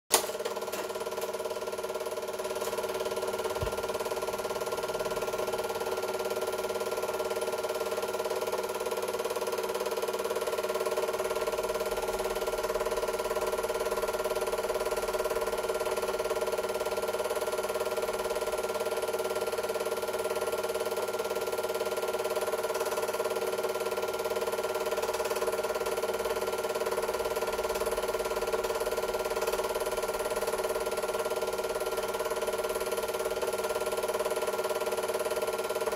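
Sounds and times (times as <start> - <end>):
film projector whirring: 0.1 - 35.9.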